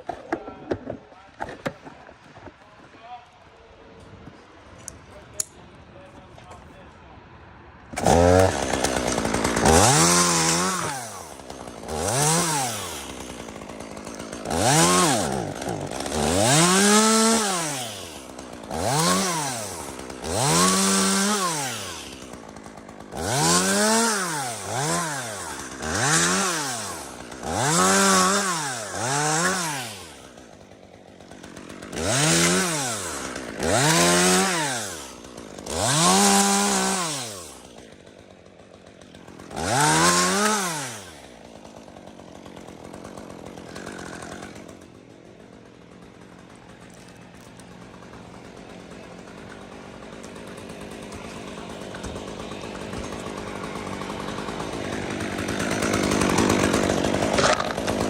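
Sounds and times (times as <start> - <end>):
chainsaw revving while cutting wood: 8.0 - 58.0.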